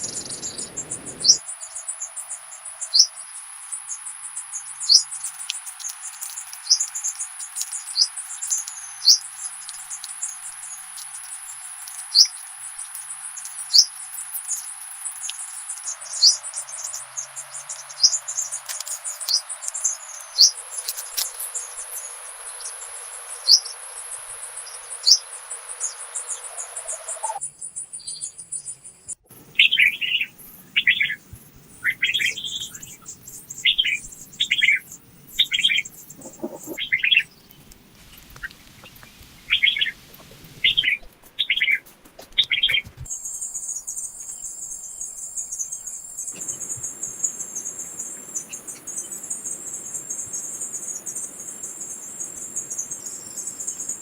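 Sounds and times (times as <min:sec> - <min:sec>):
bird chirps: 0:00.0 - 0:03.2, 0:03.9 - 0:37.7, 0:38.4 - 0:41.8, 0:42.4 - 0:54.0
cricket trill: 0:00.0 - 0:37.7, 0:42.6 - 0:54.0
high insect trill: 0:00.0 - 0:37.7, 0:43.1 - 0:54.0.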